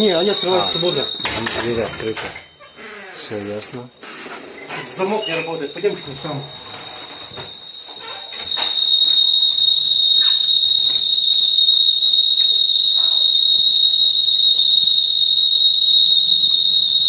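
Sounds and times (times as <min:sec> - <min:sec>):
fire alarm high-pitched tone: 0:00.0 - 0:02.9, 0:04.9 - 0:17.0.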